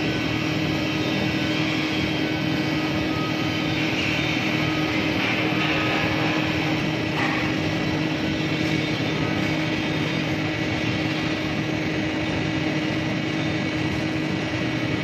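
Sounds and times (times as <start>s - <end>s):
welding arc hiss: 0.0s - 15.0s.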